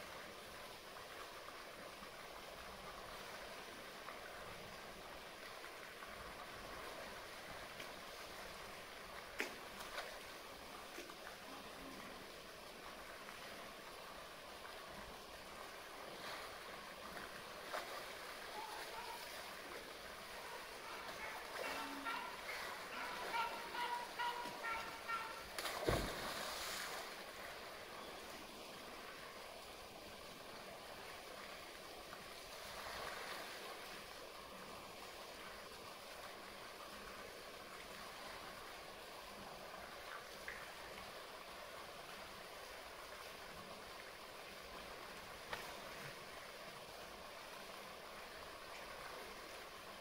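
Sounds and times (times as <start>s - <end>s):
pool water splashing: 0.0s - 50.0s.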